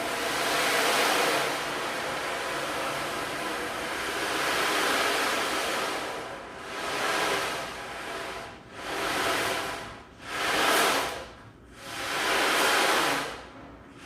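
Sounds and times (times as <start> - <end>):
ocean drum beads rolling: 0.0 - 13.4.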